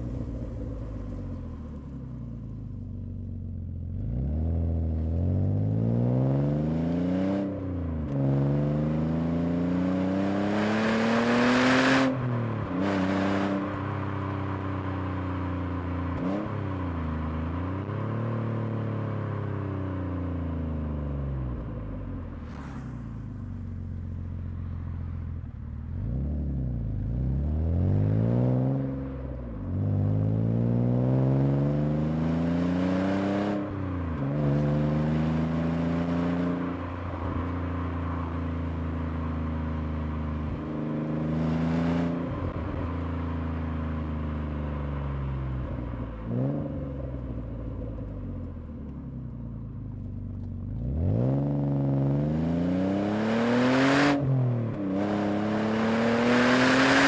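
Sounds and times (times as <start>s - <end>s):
car engine accelerating through gears: 4.0s - 19.5s, 22.2s - 24.4s, 25.9s - 49.0s, 49.9s - 57.0s.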